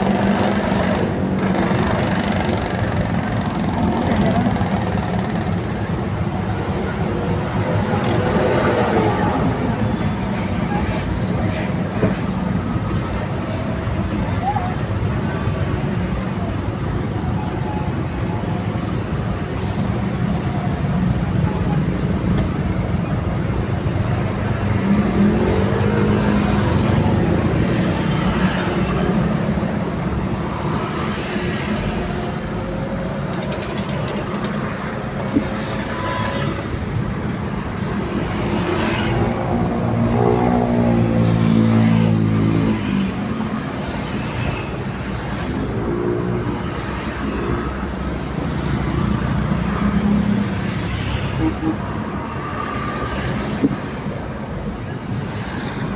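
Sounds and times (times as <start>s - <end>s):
heavy vehicles passing: 0.0s - 55.9s
road traffic: 0.0s - 55.9s.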